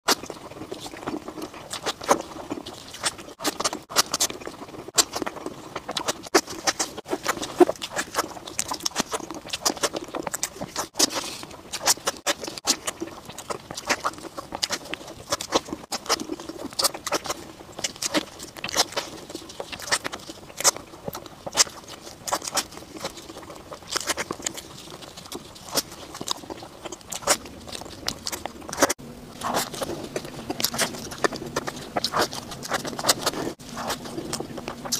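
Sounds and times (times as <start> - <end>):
chewing and lip smacking: 0.1 - 34.9.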